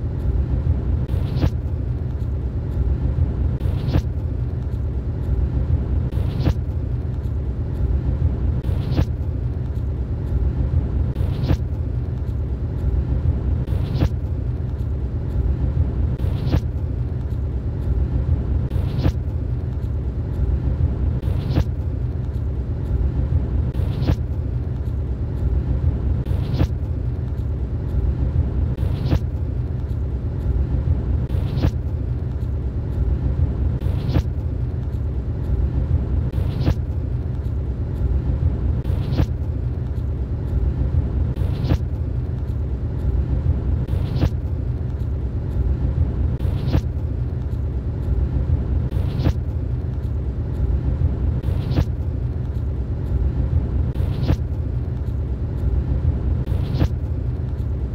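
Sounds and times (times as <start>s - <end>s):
vehicle interior rumble: 0.0s - 57.9s.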